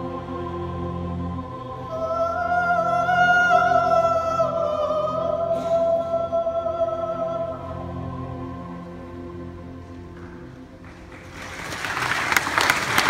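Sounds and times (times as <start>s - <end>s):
orchestral chords: 0.0s - 13.0s.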